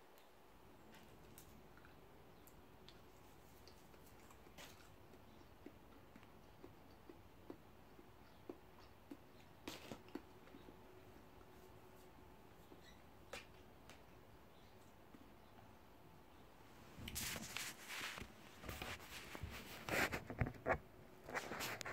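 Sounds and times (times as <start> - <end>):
faint room hum: 0.0 - 21.9.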